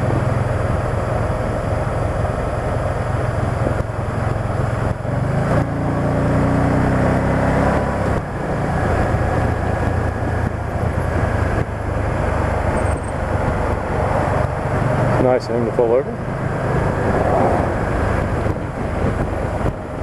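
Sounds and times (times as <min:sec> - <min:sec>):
motorcycle engine accelerating: 0:00.0 - 0:20.0
wind and road noise: 0:00.0 - 0:20.0.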